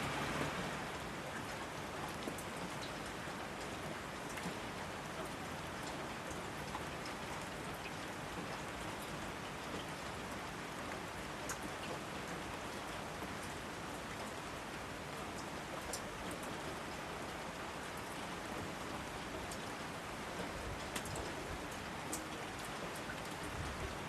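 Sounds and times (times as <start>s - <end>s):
raindrops pattering on surfaces: 0.0s - 24.0s
steady rainfall: 0.0s - 24.0s.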